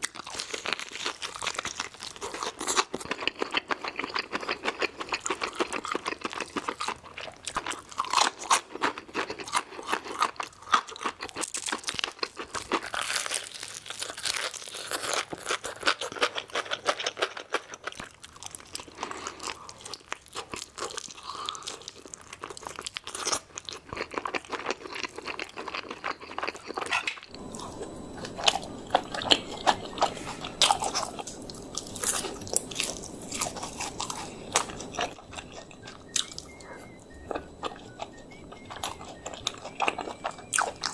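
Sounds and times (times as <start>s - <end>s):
crunching fried chicken: 0.0s - 40.9s
wet chewing: 0.0s - 40.9s.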